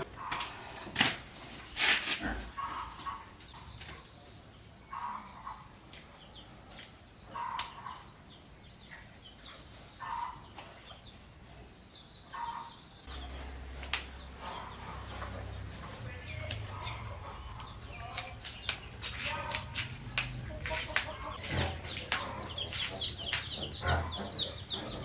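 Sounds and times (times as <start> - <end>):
chickens clucking: 0.0 - 1.0, 1.6 - 25.0.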